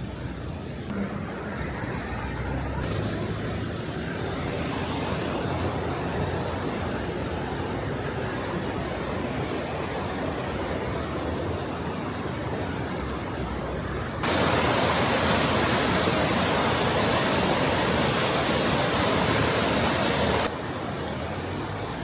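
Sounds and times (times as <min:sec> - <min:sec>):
rushing river water: 0:00.9 - 0:22.0.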